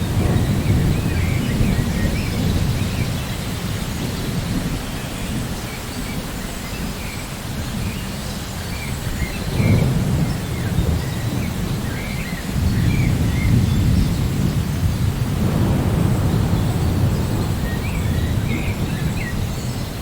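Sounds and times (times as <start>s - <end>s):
rolling thunder: 0.0s - 7.0s, 8.8s - 20.0s
steady rain: 0.0s - 20.0s.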